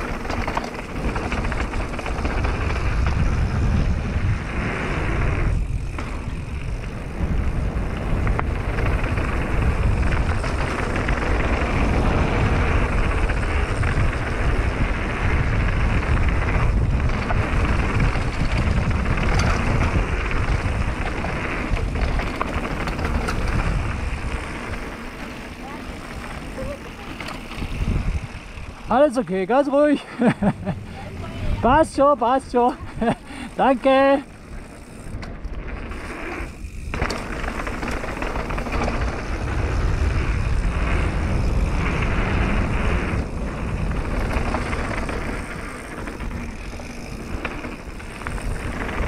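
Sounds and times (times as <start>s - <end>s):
bike tyres rolling over gravel: 0.0s - 49.0s
wind buffeting microphone: 0.0s - 49.0s.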